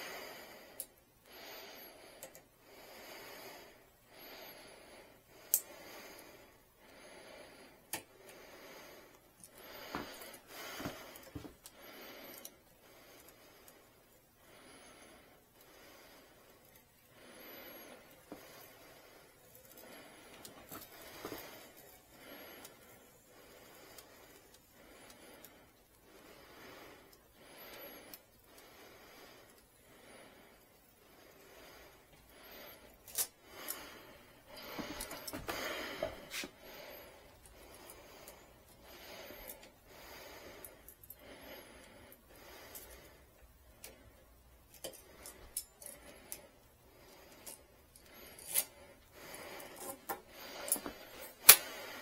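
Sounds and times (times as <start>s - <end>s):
person breathing: 0.0s - 52.0s.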